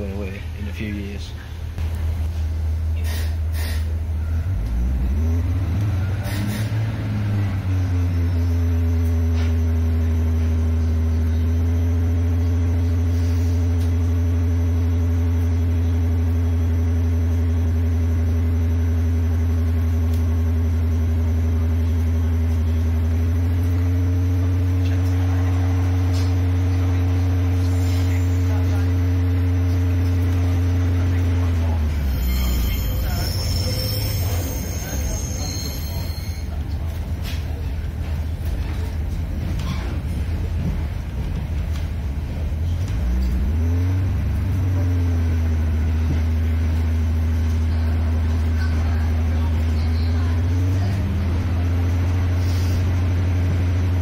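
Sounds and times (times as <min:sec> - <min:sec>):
diesel engine drone: 0:00.0 - 0:54.0
humming whine: 0:03.8 - 0:54.0.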